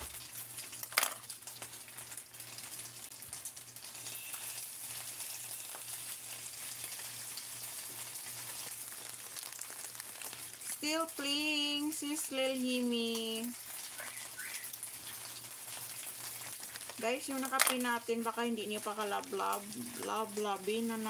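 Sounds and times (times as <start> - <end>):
food sizzling as it fries: 0.0 - 21.0.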